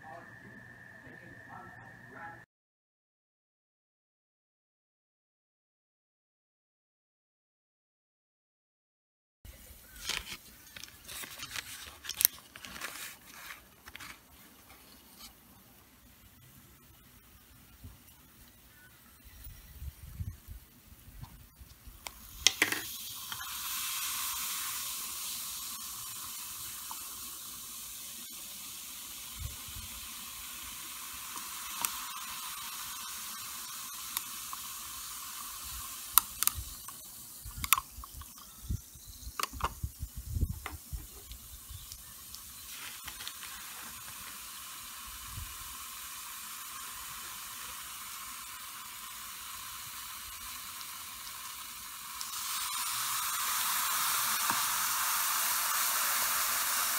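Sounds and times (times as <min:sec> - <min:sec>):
fizzing hiss of reacting mixture: 0:09.5 - 0:56.9.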